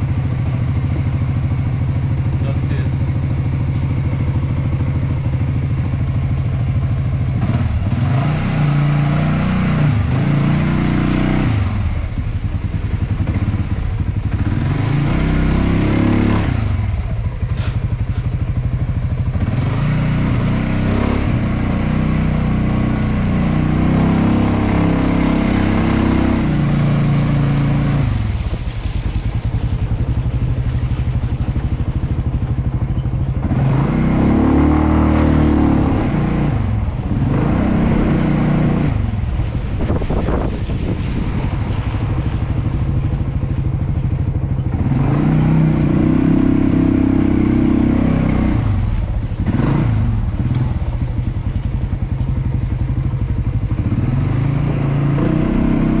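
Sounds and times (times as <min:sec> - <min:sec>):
scooter engine revving: 0:06.6 - 0:56.0.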